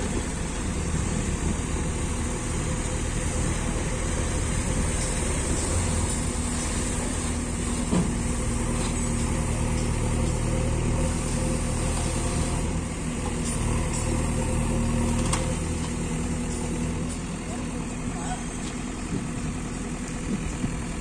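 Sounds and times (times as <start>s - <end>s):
diesel engines running under load: 0.0s - 21.0s.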